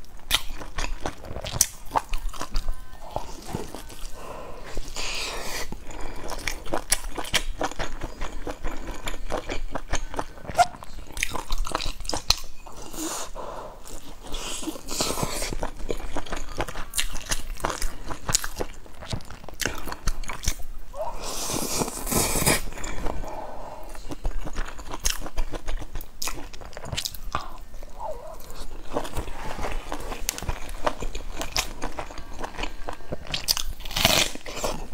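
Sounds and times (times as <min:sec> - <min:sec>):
chewing meat: 0:00.0 - 0:34.9.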